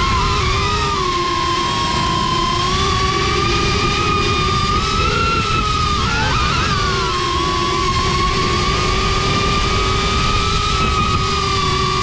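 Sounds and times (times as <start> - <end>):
drone motors whining: 0.0 - 12.0
wind rush on microphone: 0.0 - 12.0.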